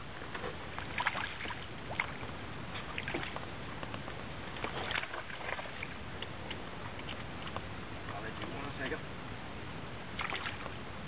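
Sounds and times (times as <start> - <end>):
water lapping against metal boat: 0.0 - 9.1, 10.0 - 11.0
wind: 0.0 - 11.0.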